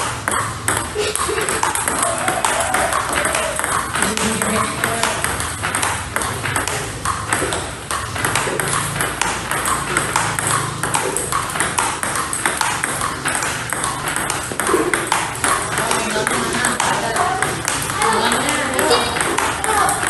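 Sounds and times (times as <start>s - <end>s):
table tennis ball clicks: 0.0s - 20.0s.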